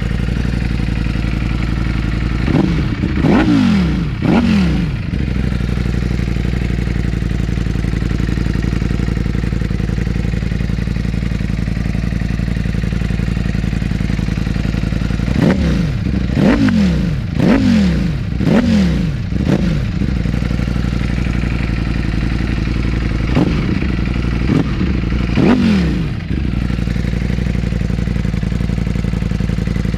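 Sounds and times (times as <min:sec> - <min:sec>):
motorcycle engine idling and revving: 0:00.0 - 0:29.9.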